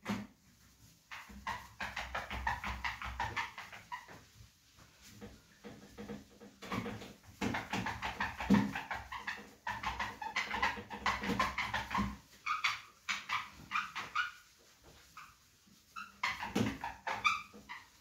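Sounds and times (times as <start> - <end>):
whiteboard being wiped squeaking: 0.0 - 18.0.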